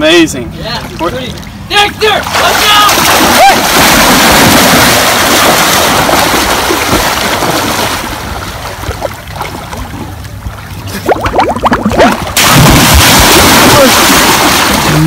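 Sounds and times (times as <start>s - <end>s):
water splashing from swimmers: 0.9s - 15.0s.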